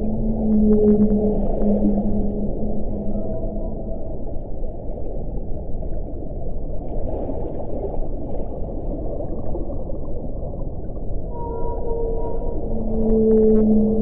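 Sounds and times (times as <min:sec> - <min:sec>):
underwater low rushing noise: 0:00.0 - 0:14.0.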